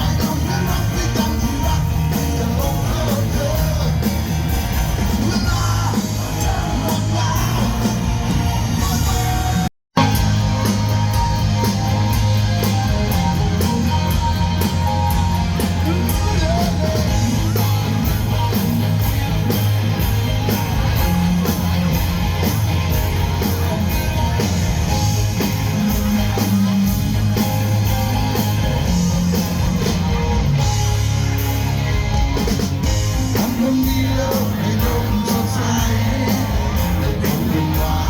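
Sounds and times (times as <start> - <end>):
bass guitar: 0.0 - 38.0
guitar: 0.0 - 38.0
steady drum beat: 0.0 - 38.0.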